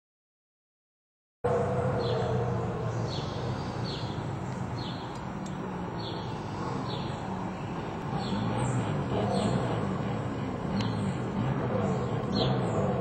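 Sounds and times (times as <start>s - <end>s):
bird chirping: 1.5s - 13.0s
steady low rumble: 1.5s - 13.0s.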